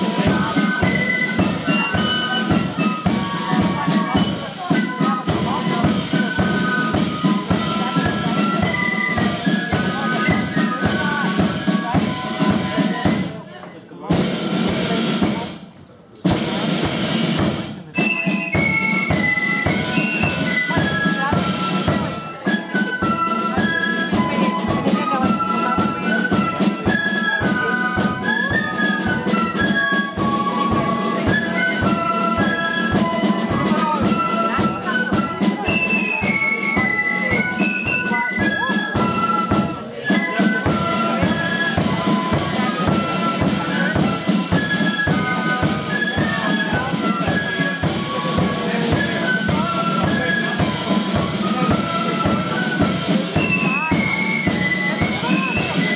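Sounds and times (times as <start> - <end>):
snare and bass drum: 0.0 - 13.4, 14.0 - 55.9
flutes playing quick melody: 0.0 - 15.6, 16.2 - 55.9.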